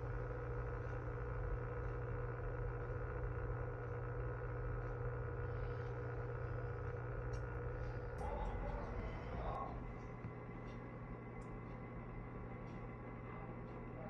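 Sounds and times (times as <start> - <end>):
aquarium filter humming: 0.0 - 14.0.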